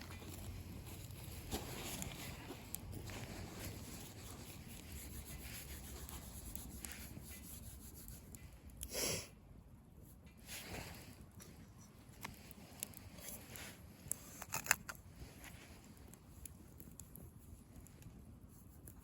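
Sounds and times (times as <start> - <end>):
bonfire crackling: 0.0 - 7.4, 10.4 - 19.0
fire rustling: 0.0 - 9.0, 9.8 - 19.0.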